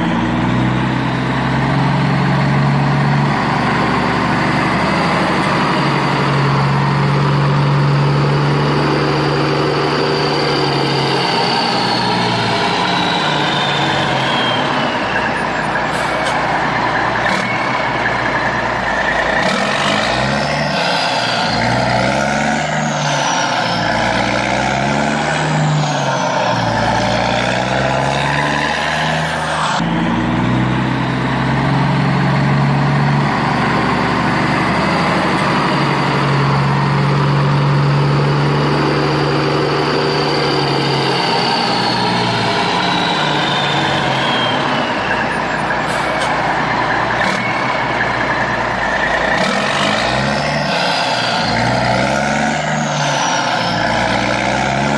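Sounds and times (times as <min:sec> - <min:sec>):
heavy vehicle engine running: 0:00.0 - 0:54.9.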